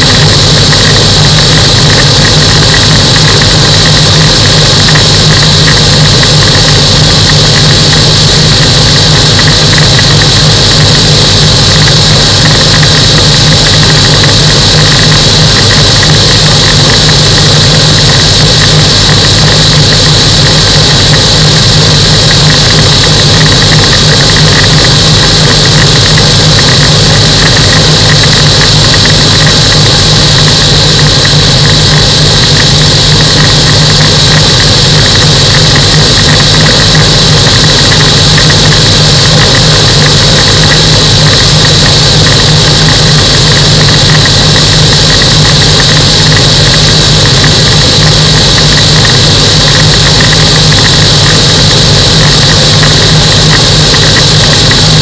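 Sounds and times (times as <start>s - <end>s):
aircraft engine drone: 0.0s - 55.0s
high-pitched whine: 0.0s - 55.0s.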